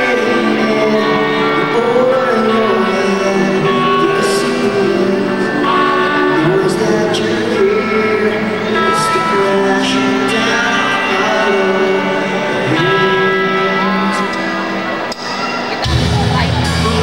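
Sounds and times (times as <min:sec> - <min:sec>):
rock band playing loudly: 0:00.0 - 0:17.0.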